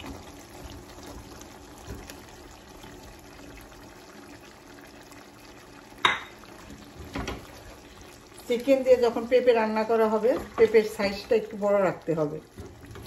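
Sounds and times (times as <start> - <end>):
liquid trickling into a pan: 0.0 - 13.0.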